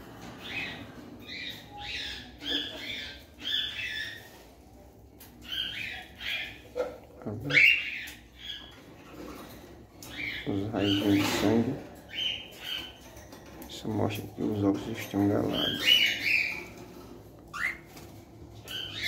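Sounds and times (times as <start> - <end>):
cockatiels calling: 0.3 - 4.4, 5.2 - 9.4, 10.0 - 13.1, 14.9 - 19.0.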